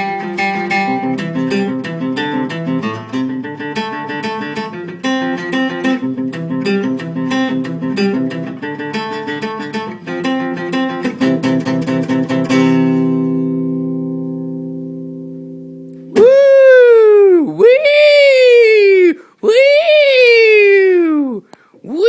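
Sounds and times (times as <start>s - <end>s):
acoustic guitar strummed and picked: 0.0s - 21.3s.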